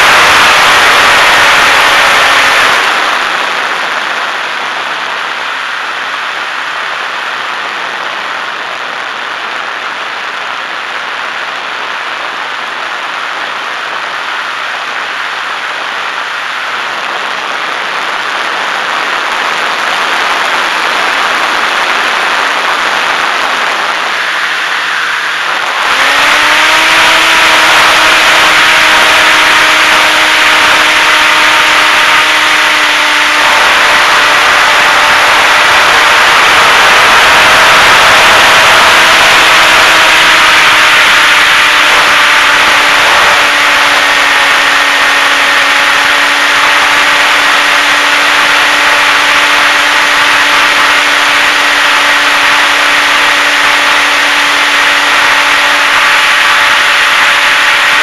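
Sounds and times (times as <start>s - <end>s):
propeller whine: 0.0s - 58.0s.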